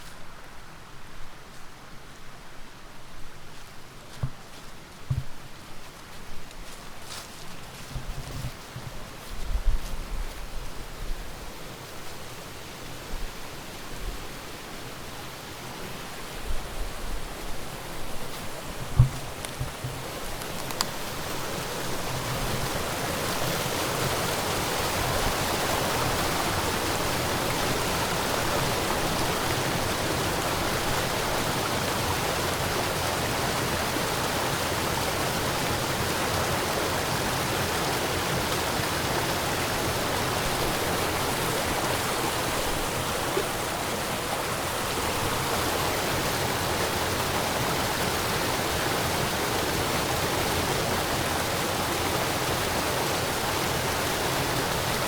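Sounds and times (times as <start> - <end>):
small waterfall rushing: 10.3 - 55.0.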